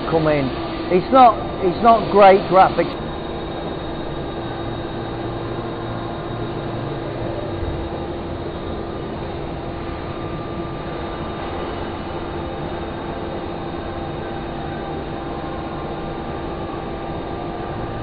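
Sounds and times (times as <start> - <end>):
lathe humming: 0.0 - 18.0.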